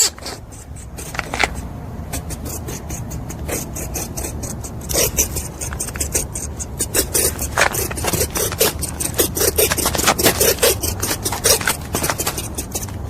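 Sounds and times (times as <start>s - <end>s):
rabbit gnawing: 0.0s - 13.0s.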